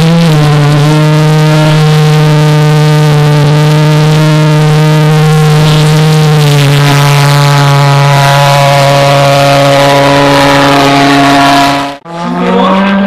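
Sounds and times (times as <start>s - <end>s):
pulse jet engine buzzing drone: 0.0s - 13.0s.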